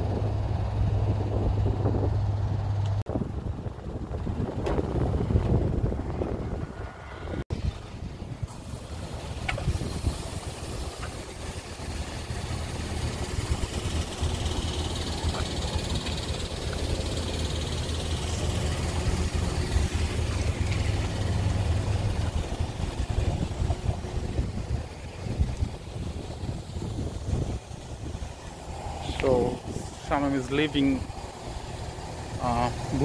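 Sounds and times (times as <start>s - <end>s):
car engine idling: 0.0s - 33.0s
wind buffeting microphone: 0.0s - 33.0s.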